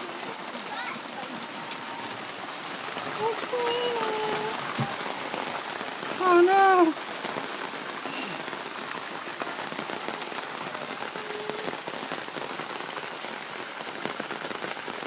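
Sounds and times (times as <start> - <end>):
heavy rain: 0.0 - 15.0
raindrops spattering: 0.0 - 15.0.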